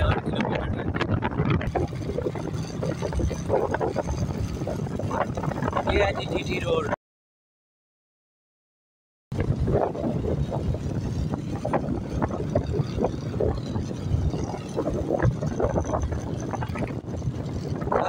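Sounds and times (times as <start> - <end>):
motorcycle engine: 0.0 - 6.9, 9.3 - 18.0
wind buffeting microphone: 0.0 - 7.0, 9.3 - 18.0.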